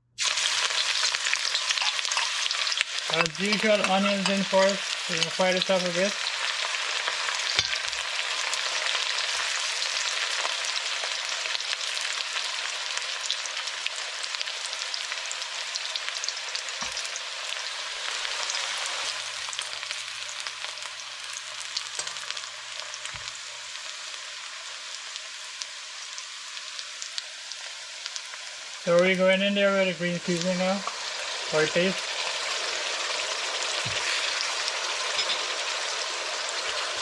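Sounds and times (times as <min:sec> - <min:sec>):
onions sizzling in hot oil: 0:00.0 - 0:37.0.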